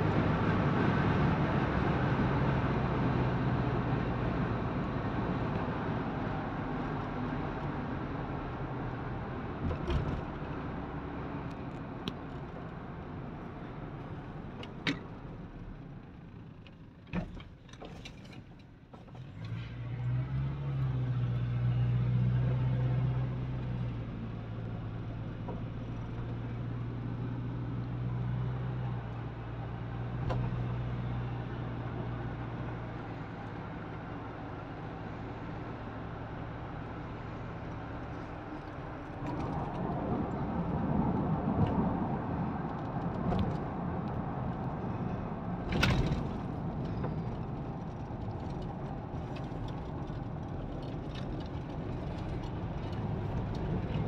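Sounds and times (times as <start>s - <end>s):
low engine hum: 0.0s - 54.0s
road noise inside car: 0.0s - 54.0s.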